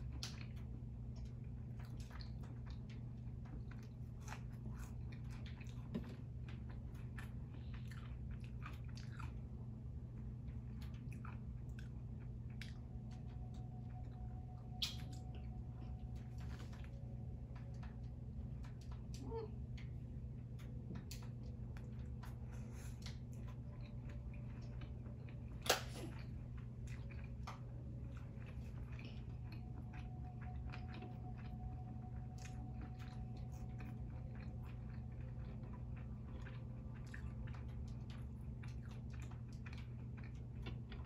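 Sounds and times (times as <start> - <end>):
close chewing and biting: 0.0 - 18.0, 18.6 - 41.0
steady low hum: 0.0 - 41.0.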